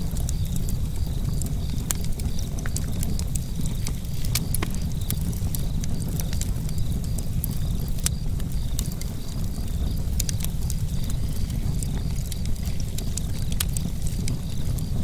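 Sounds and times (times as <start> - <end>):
burning wood crackling and popping: 0.0 - 15.0
campfire flame rushing: 0.0 - 15.0.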